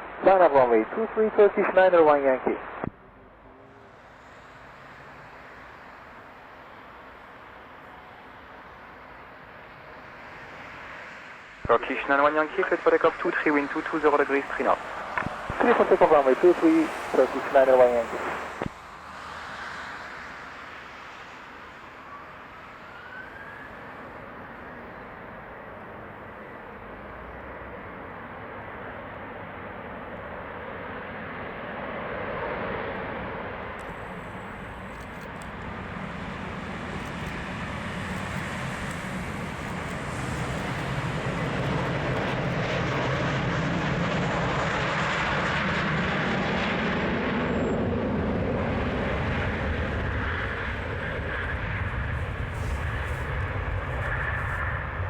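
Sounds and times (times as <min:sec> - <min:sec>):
jet engine roar at takeoff: 0:00.0 - 0:55.0.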